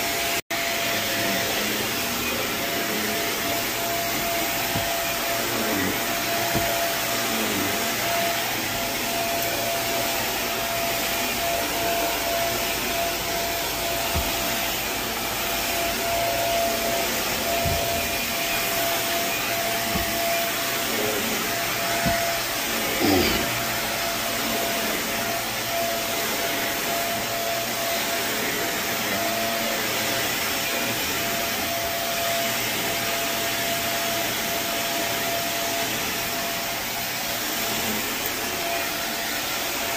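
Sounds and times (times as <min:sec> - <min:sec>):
carpet cleaning machine running: 0:00.0 - 0:39.9.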